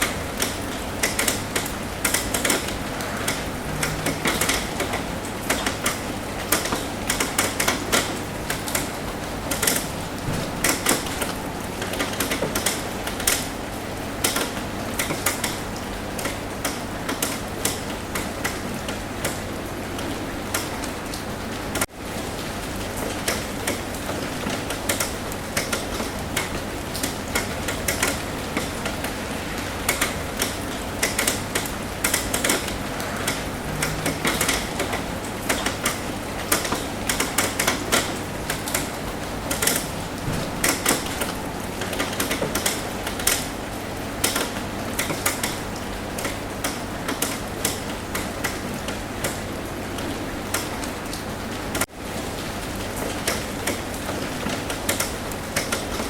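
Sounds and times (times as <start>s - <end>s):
rain drops tapping on a roof: 0.0s - 56.0s
steady hiss of rain: 0.0s - 56.0s.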